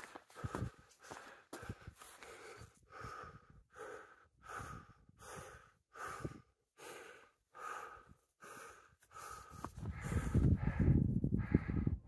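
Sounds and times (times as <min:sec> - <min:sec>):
heavy rhythmic breathing: 0:00.0 - 0:12.0.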